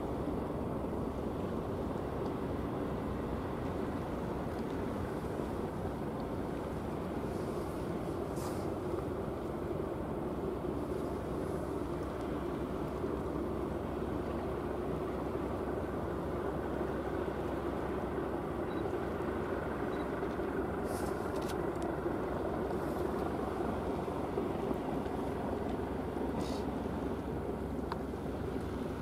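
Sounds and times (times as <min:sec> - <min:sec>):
ship engines low rumble: 0:00.0 - 0:29.0.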